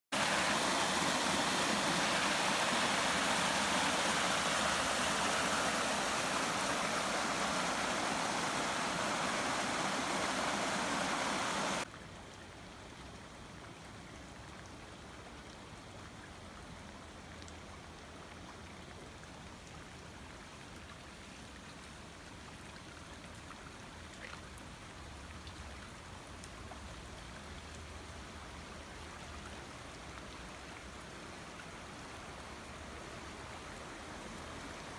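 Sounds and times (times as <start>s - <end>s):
floodwater flowing: 0.0s - 34.9s
water rushing down a slope: 0.0s - 34.9s.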